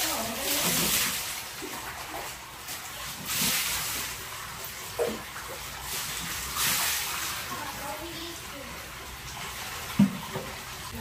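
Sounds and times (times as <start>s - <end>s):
water poured and splashing: 0.0s - 11.0s.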